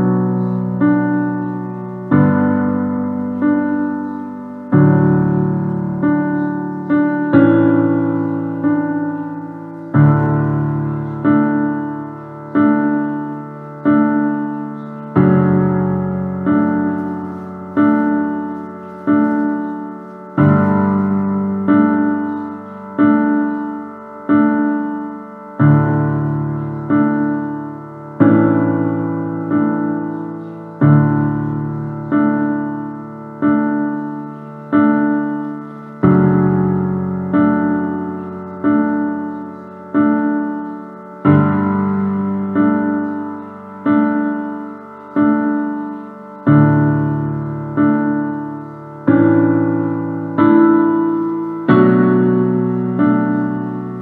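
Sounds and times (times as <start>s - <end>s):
slow piano music: 0.0s - 54.0s.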